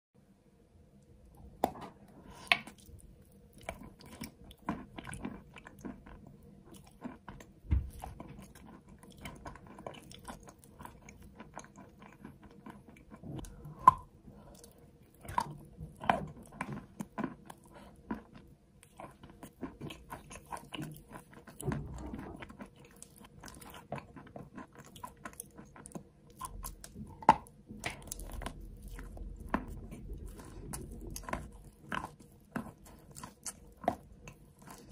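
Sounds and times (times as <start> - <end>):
person chewing chalk: 1.6 - 21.7, 22.4 - 34.9.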